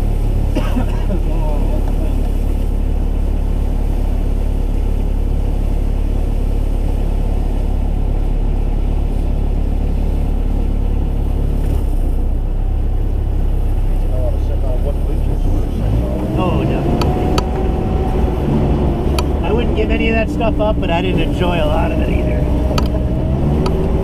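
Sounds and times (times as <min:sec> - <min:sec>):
diesel engine running: 0:00.0 - 0:24.0
low drivetrain rumble: 0:00.0 - 0:24.0.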